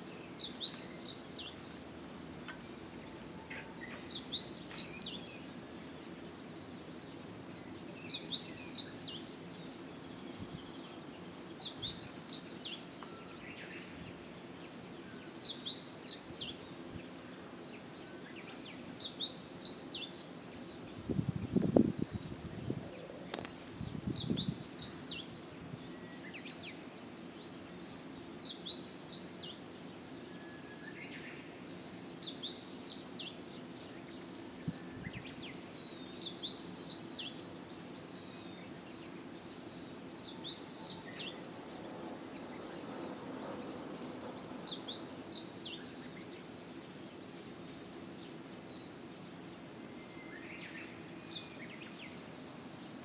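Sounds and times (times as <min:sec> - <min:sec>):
songbird singing: 0:00.0 - 0:53.0.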